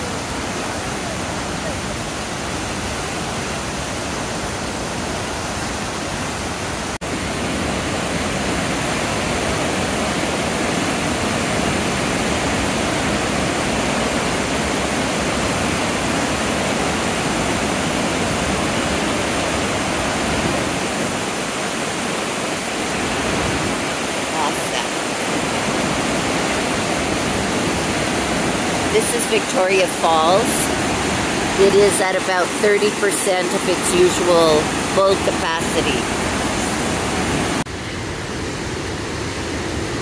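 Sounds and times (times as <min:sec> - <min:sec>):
rush of falling water: 0:00.0 - 0:40.0.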